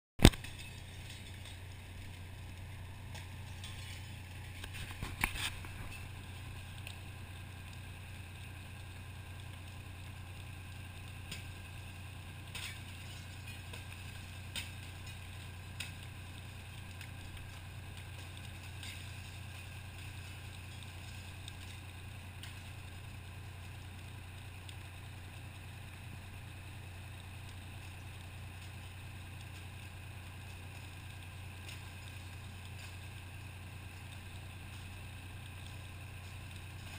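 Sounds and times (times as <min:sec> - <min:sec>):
fire engine pump droning: 0:00.4 - 0:36.9.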